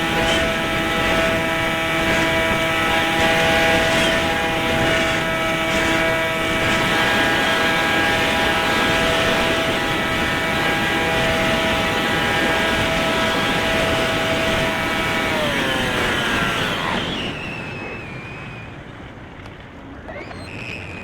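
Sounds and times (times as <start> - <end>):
electric motor and propeller whine: 0.0 - 21.0.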